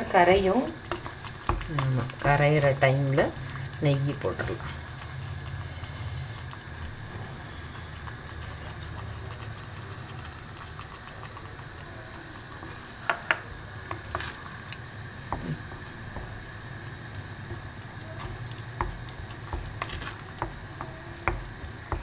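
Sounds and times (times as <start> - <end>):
spatula stirring thick mixture in pot: 0.0 - 22.0
steady low hum: 0.0 - 22.0.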